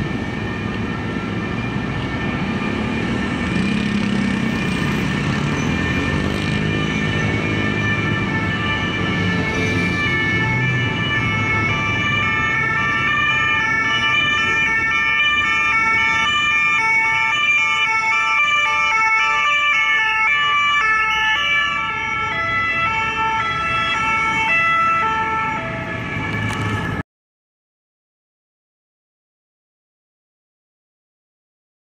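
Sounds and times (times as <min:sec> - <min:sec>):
heavy road traffic rumble: 0:00.0 - 0:27.0
two-tone emergency sirens: 0:00.0 - 0:27.0.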